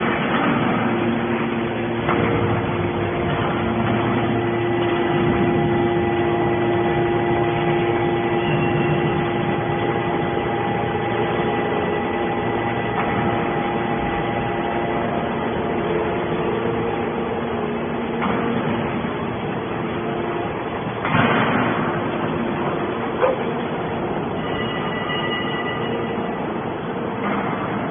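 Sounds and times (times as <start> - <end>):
baler machinery humming: 0.0 - 27.9.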